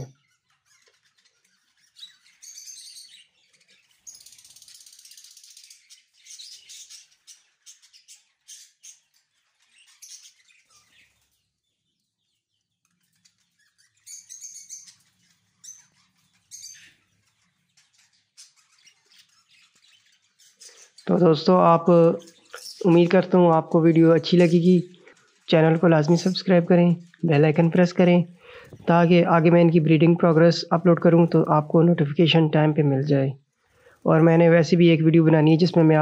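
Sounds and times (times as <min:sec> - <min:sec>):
caged birds chirping: 0:00.0 - 0:36.0.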